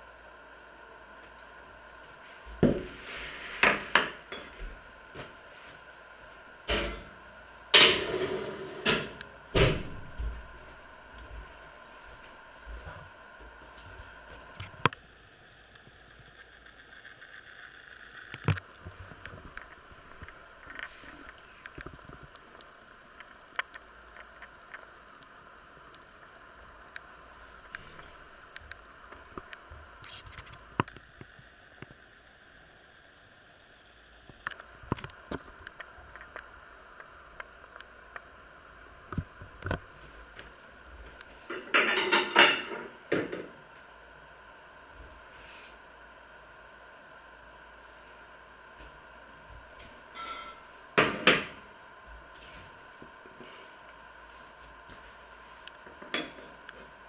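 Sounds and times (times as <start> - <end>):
faint hum: 0.0 - 57.0.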